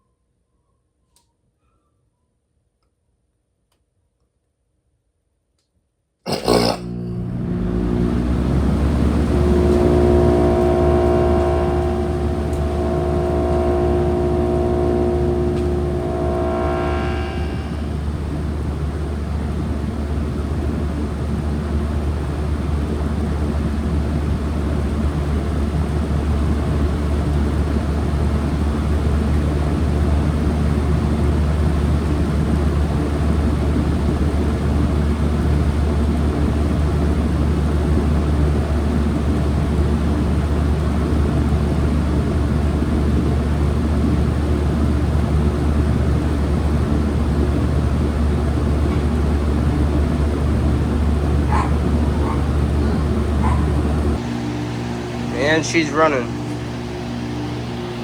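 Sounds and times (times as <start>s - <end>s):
heat pump humming: 6.5s - 58.0s.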